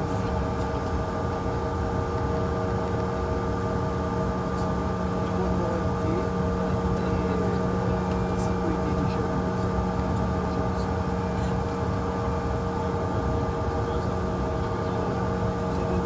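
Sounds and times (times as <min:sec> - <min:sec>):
jet engines humming: 0:00.0 - 0:16.0.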